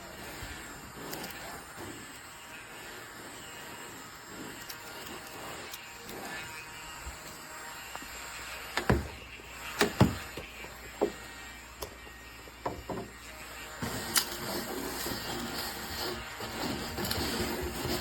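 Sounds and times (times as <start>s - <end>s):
mini vacuum cleaner whirring: 0.0s - 18.0s.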